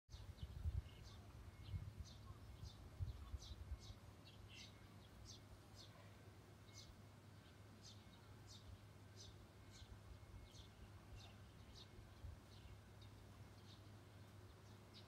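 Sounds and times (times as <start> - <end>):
small bird chirping: 0.1 - 15.0.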